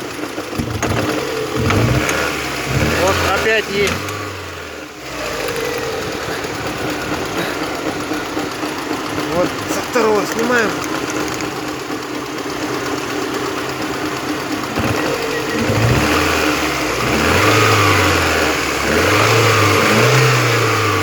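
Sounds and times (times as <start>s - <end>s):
four-cylinder engine running: 0.0s - 21.0s.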